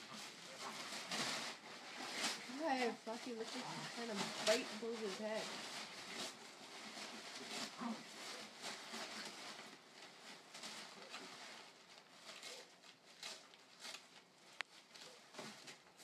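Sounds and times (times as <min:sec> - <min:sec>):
dogs chewing paper: 0:00.0 - 0:16.0
packing paper rustling: 0:00.0 - 0:16.0.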